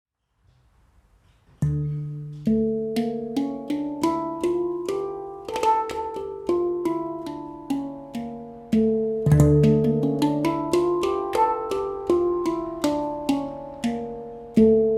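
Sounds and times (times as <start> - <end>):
handpan notes ringing: 1.6 - 14.9.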